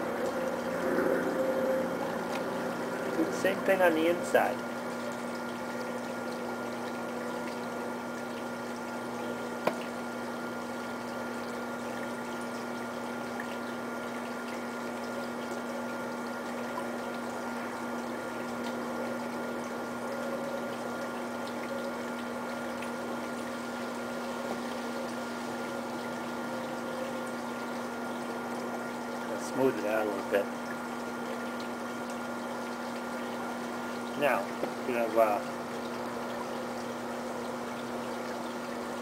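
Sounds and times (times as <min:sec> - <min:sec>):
constant hiss: 0:00.0 - 0:39.0
steady hum: 0:00.0 - 0:39.0.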